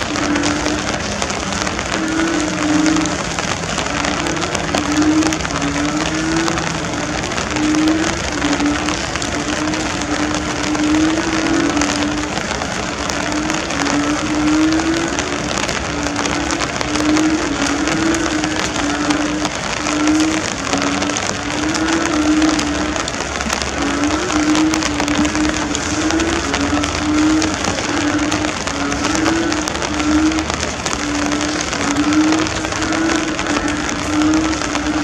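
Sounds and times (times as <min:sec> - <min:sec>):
heavy rain pouring: 0:00.0 - 0:35.0.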